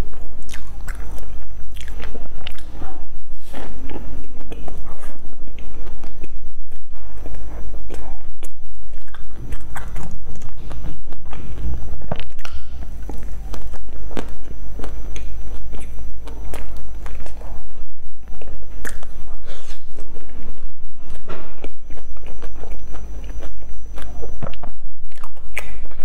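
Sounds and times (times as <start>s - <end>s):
crunchy pastry chewing: 0.0s - 26.0s
steady low hum: 0.0s - 26.0s.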